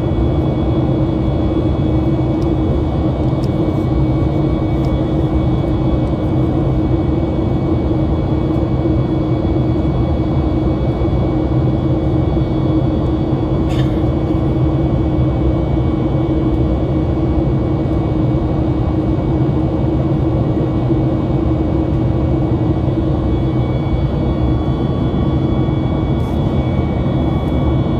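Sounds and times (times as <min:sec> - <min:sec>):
aircraft cabin engine rumble: 0:00.0 - 0:27.9.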